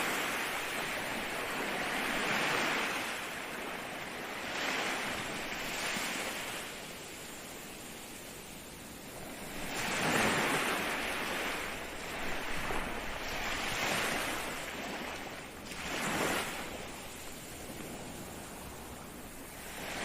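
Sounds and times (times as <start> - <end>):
ocean waves breaking on shore: 0.0 - 20.0.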